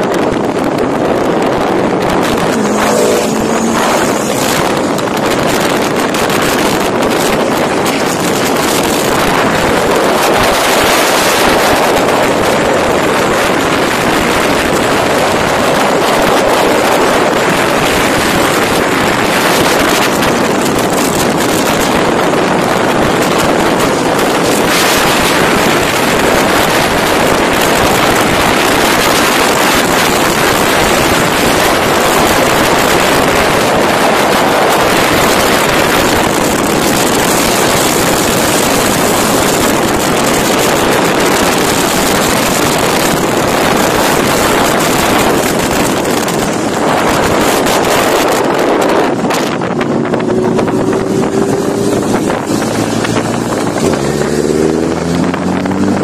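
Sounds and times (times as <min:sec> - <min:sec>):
motorcycle engines running: 0:00.0 - 0:56.0
road noise: 0:00.0 - 0:56.0
wind rushing: 0:00.0 - 0:56.0.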